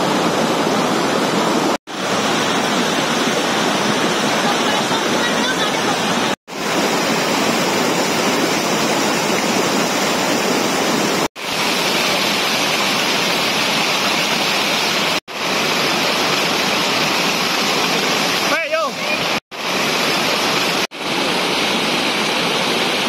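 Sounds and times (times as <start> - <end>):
waterfall rushing over rocks: 0.0 - 23.0.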